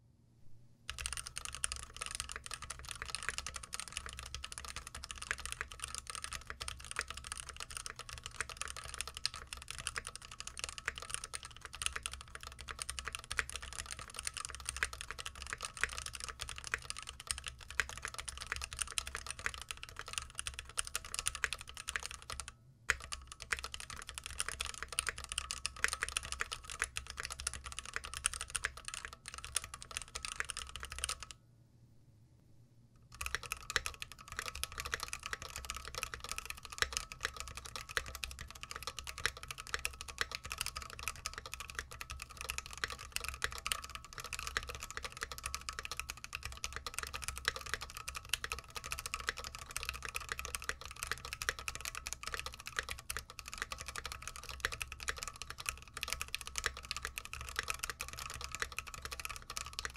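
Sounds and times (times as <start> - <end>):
fast keyboard typing: 0.9 - 31.4, 33.1 - 59.9.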